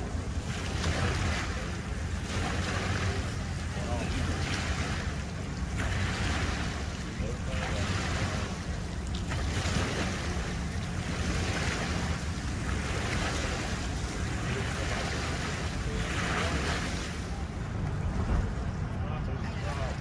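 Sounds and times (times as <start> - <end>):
small waves washing on concrete: 0.0 - 20.0
steady low rumble: 0.0 - 20.0.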